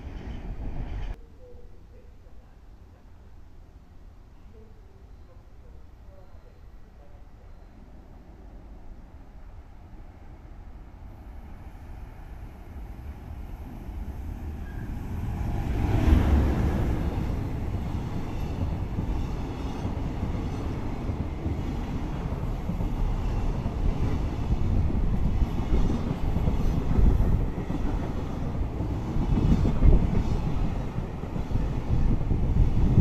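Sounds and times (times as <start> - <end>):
freight train passing: 0.0 - 1.5, 6.4 - 33.0.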